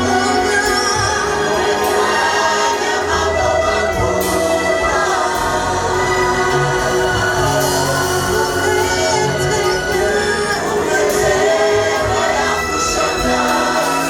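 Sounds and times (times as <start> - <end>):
choir singing: 0.0 - 14.0
instrumental backing: 0.0 - 14.0.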